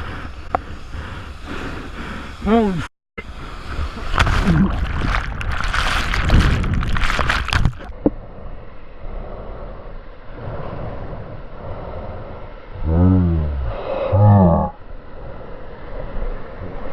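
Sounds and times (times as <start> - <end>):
wind: 0.0 - 16.9.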